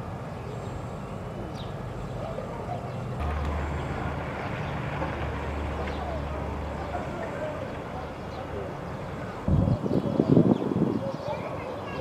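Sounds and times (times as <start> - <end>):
low engine drone: 0.0 - 10.3
city background noise: 0.0 - 12.0.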